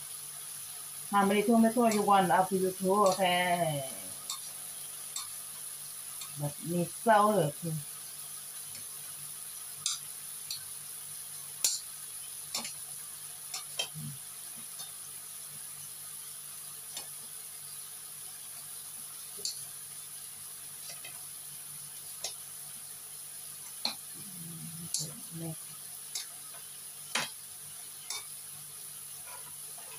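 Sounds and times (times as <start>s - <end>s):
meat sizzling in a frying pan: 0.0s - 29.9s
sharp pops of frying: 0.0s - 29.9s.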